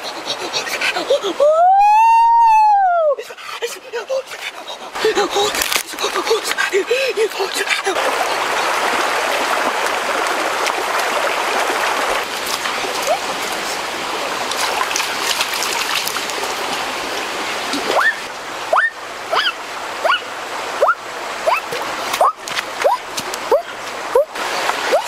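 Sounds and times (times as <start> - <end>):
stream splashing over rocks: 3.6 - 25.0.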